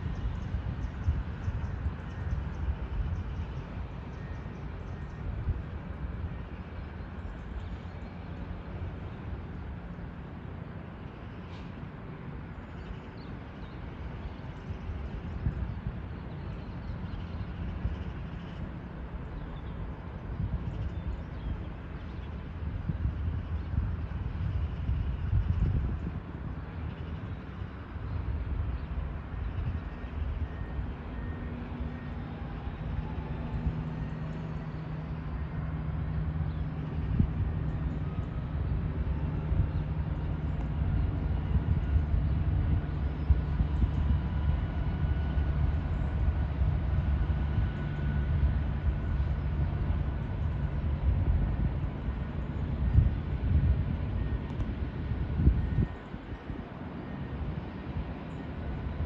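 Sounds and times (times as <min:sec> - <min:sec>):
diesel locomotive approaching: 0:00.0 - 0:59.0.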